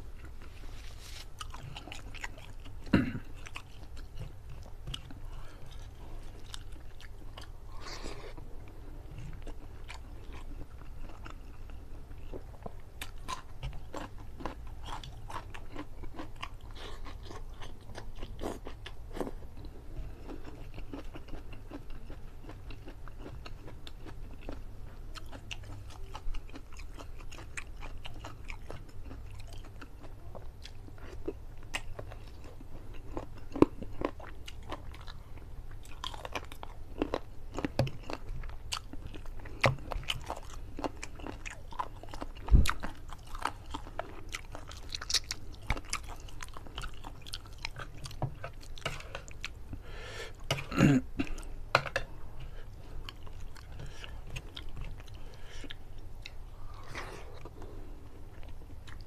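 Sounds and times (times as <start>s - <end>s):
man chewing and mouth smacking: 0.1s - 51.8s, 52.4s - 59.0s.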